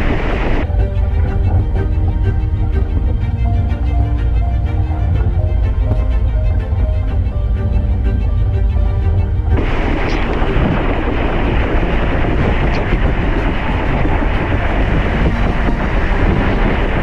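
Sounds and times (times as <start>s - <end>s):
background music: 0.0s - 17.0s
rushing water: 0.0s - 17.0s
wind buffeting microphone: 0.0s - 17.0s.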